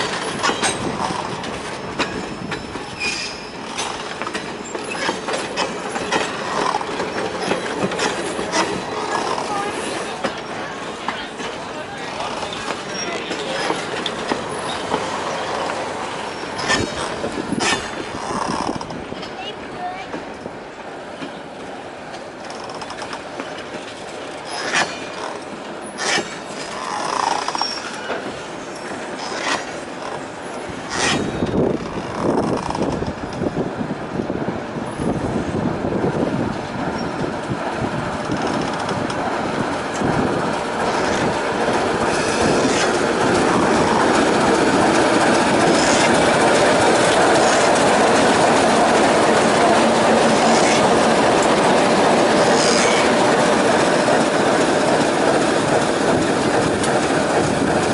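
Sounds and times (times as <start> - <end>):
locomotive engine rumble: 0.0 - 57.9.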